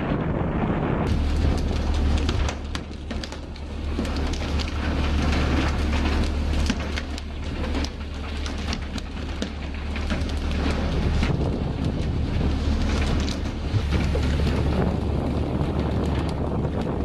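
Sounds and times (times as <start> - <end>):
boat engine running low: 1.1 - 17.0.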